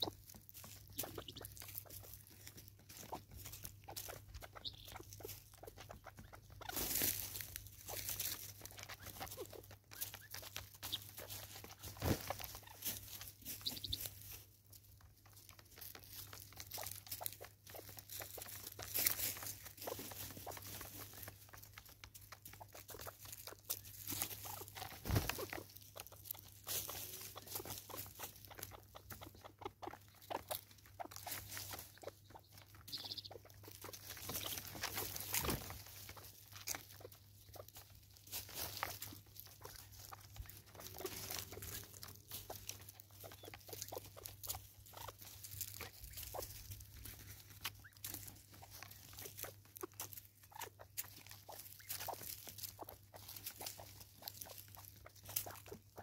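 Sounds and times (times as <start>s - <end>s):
seed crunching: 0.0s - 56.0s.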